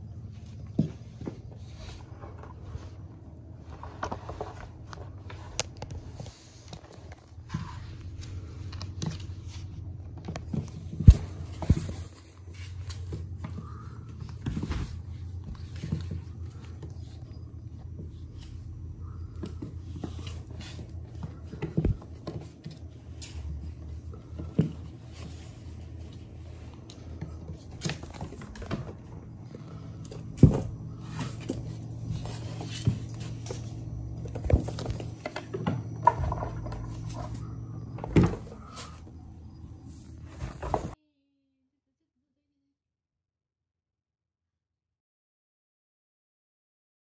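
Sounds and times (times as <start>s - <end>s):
kittens' paws scuffling on wooden floor: 0.0s - 41.0s
steady low hum: 0.0s - 41.2s.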